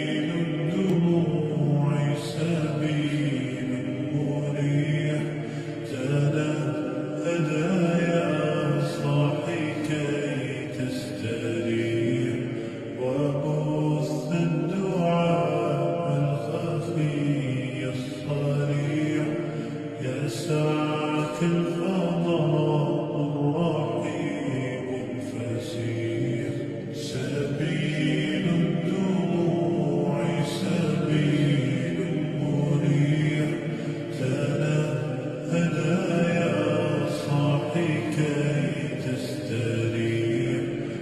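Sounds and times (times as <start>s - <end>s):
voice chanting long notes: 0.0s - 41.0s.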